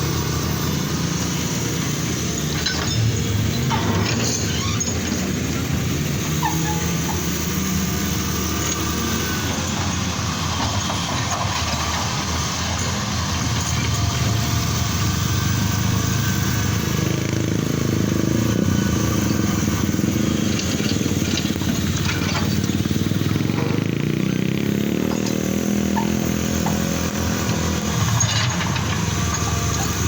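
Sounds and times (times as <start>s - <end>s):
engines running: 0.0s - 30.0s.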